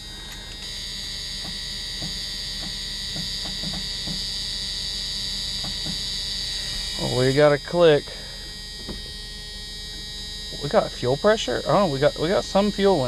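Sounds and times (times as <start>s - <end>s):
car warning buzzer: 0.0s - 13.0s.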